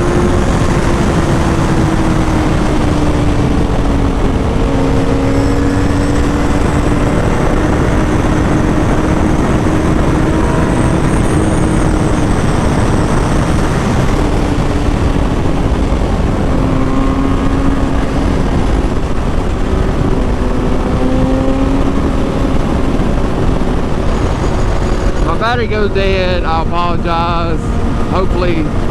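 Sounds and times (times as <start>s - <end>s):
motorcycle engine cruising: 0.0s - 28.9s
wind rush on microphone: 0.0s - 28.9s.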